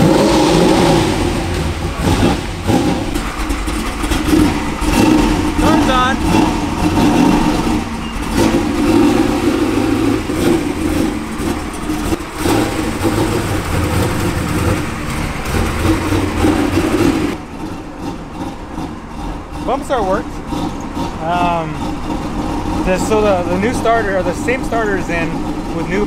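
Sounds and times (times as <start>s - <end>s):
car engine revving unevenly: 0.0s - 26.0s.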